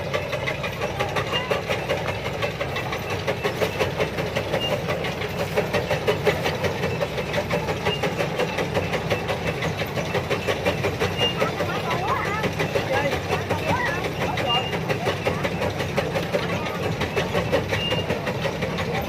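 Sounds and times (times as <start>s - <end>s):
combine harvester diesel engine: 0.0s - 19.0s
rapid machinery clatter: 0.0s - 19.0s.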